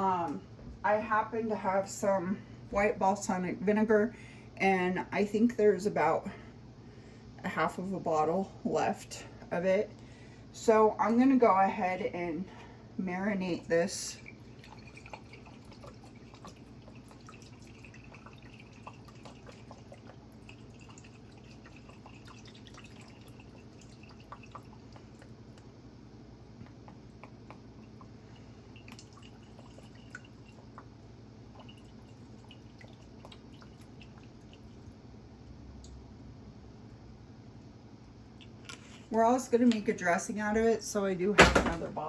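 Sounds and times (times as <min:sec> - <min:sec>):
low room hum: 0:00.0 - 0:42.0.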